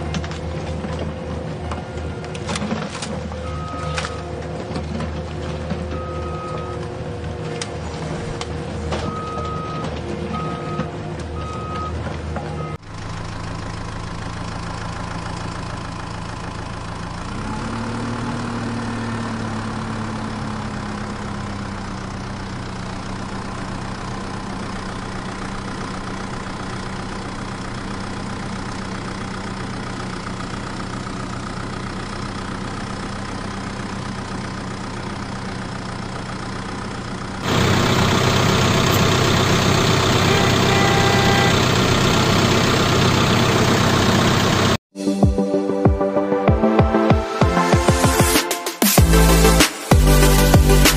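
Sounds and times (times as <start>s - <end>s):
harsh engine sound: 0.0s - 44.8s, 46.7s - 50.9s
truck engine idling and revving: 0.0s - 44.8s, 46.7s - 50.9s.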